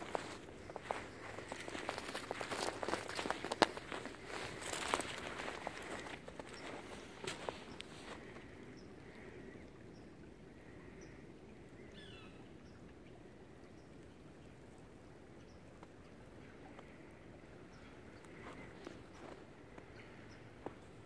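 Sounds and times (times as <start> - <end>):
faint bird calls: 0.0 - 12.8, 15.4 - 20.9.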